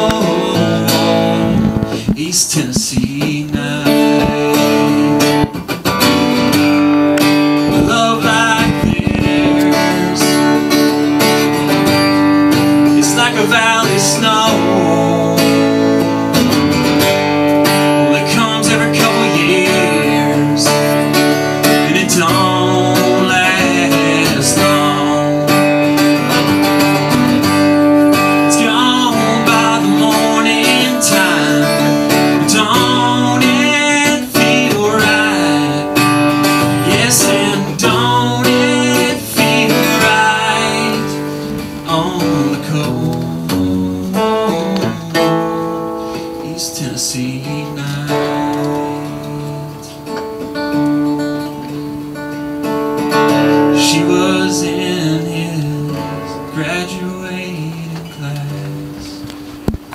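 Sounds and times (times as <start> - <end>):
man singing: 0.0 - 50.2, 53.0 - 59.3
acoustic guitar: 0.0 - 59.9.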